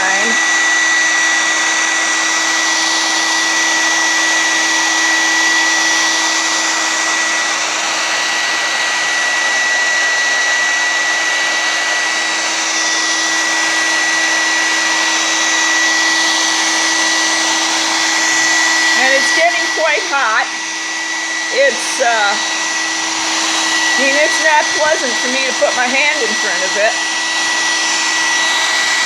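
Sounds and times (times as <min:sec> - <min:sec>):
hairdryer running: 0:00.0 - 0:29.0.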